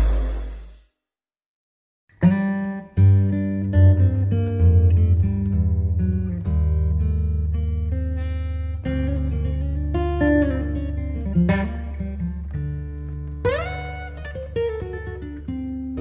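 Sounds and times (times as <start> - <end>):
guitar picking notes: 2.1 - 16.0.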